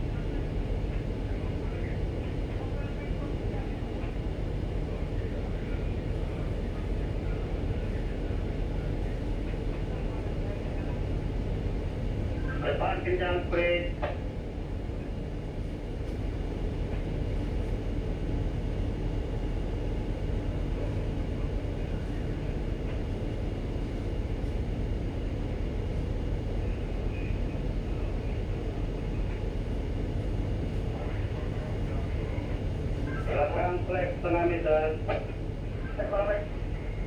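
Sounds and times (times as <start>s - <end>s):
ship engine rumble: 0.0s - 37.0s.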